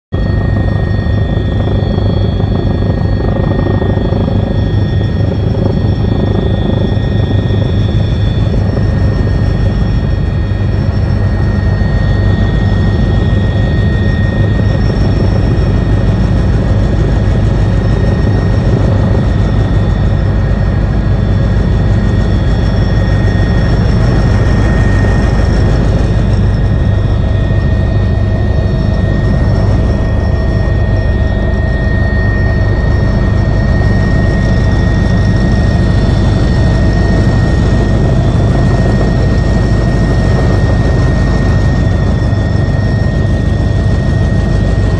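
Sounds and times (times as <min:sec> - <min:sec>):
helicopter engine and rotor drone: 0:00.1 - 0:44.9
high-pitched whines: 0:00.2 - 0:44.9.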